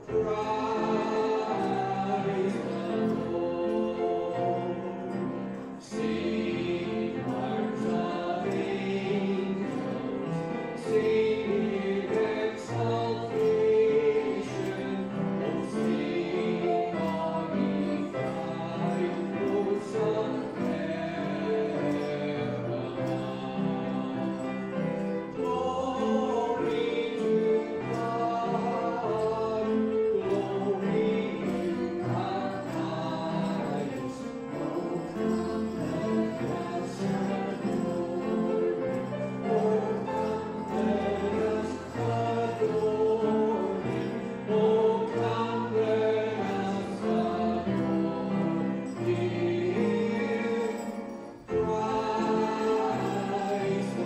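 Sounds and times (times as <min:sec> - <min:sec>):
piano accompaniment: 0:00.0 - 0:54.0
voices singing a carol together: 0:00.0 - 0:54.0.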